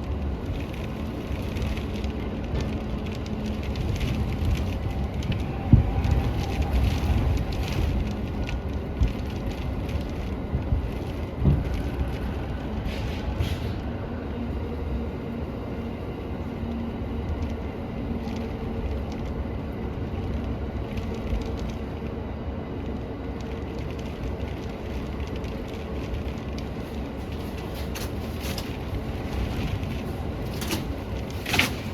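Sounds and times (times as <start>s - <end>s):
train low rumble: 0.0s - 31.9s.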